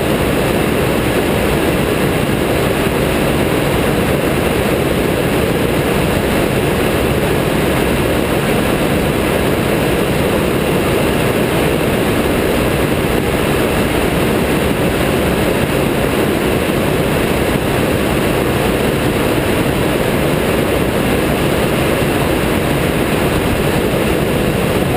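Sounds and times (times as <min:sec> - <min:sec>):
aircraft engine and propeller drone: 0:00.0 - 0:24.9.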